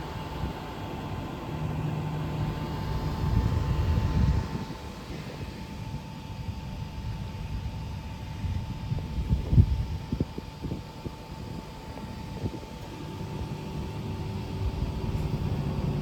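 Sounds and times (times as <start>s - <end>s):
electric train rumble and whine: 0.0s - 16.0s.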